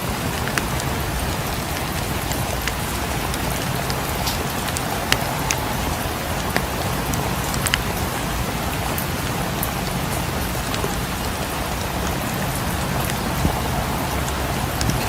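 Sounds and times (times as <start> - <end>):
steady rain falling: 0.0 - 15.0
wood fire crackling and popping: 0.4 - 11.0, 12.0 - 15.0.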